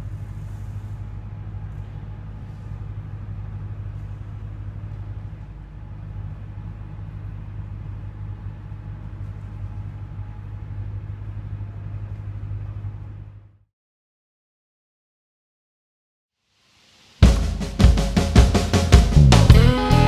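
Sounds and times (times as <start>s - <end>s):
low machine hum: 0.0s - 13.7s, 17.2s - 20.0s.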